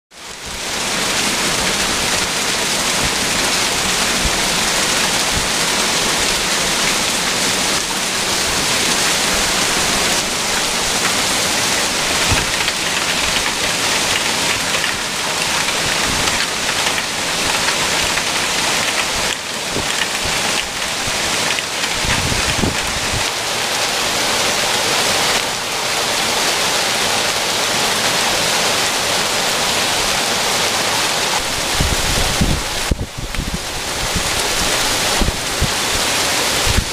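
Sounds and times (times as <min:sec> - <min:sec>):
heavy rain and hail pelting: 0:00.1 - 0:36.9.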